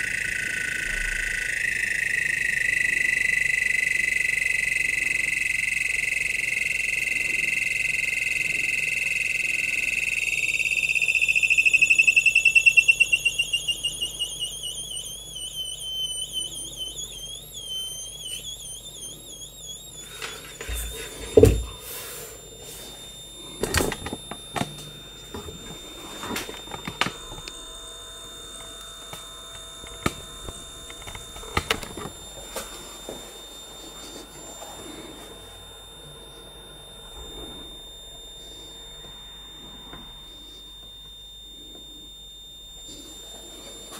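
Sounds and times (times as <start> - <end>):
high-pitched electronic whine: 0.0 - 43.9.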